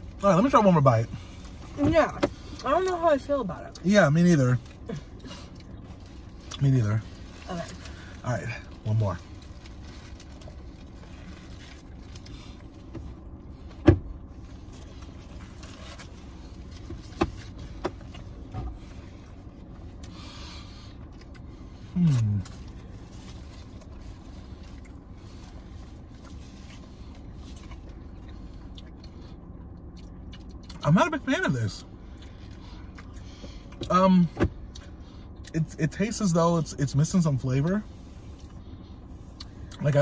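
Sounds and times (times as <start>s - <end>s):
low hum in car cabin: 0.0s - 40.0s.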